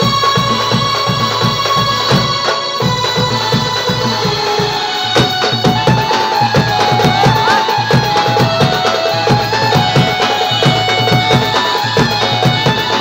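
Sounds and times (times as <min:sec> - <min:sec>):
folk dance music with drums: 0:00.0 - 0:13.0.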